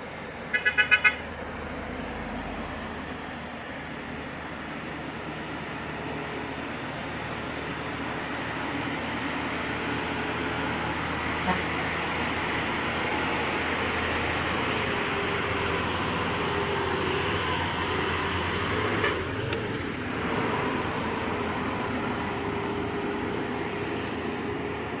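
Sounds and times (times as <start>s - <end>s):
heavy engines and road traffic: 0.0s - 25.0s.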